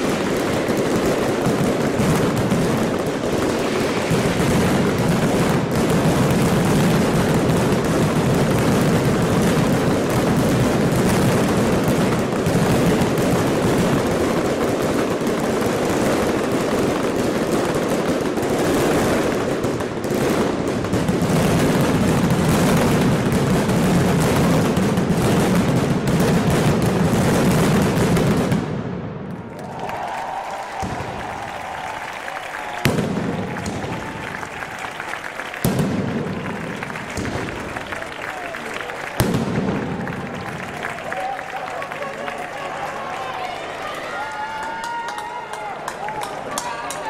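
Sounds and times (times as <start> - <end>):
firecrackers banging: 0.0 - 47.0.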